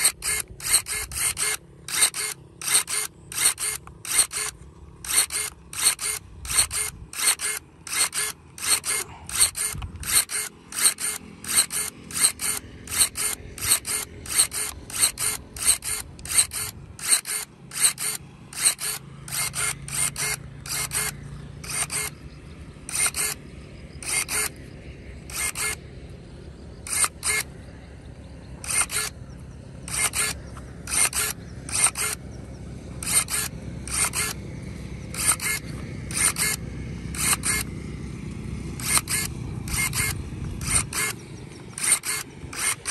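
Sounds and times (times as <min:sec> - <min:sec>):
electric pruning shears clacking: 0:00.0 - 0:27.7, 0:28.5 - 0:42.9.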